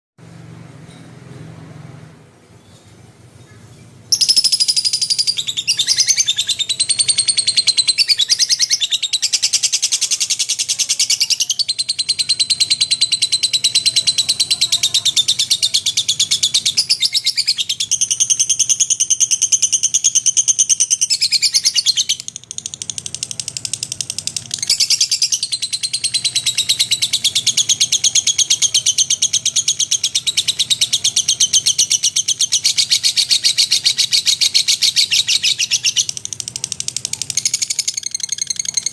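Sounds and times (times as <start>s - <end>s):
bird trilling chatter: 3.4s - 38.9s.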